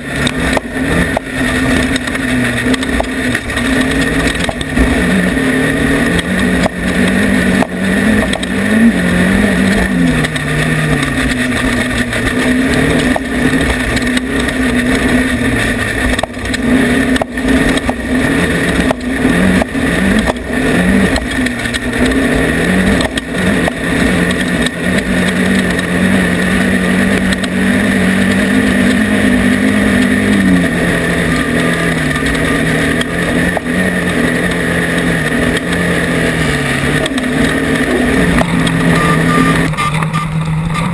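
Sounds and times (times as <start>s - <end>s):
race vehicle engine revving: 0.0s - 40.9s.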